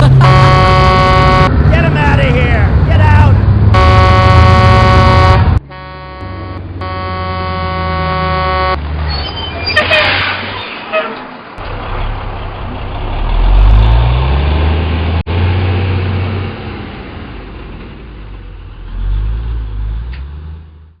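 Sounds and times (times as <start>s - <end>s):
truck engine revving: 0.0s - 10.7s, 11.6s - 21.0s.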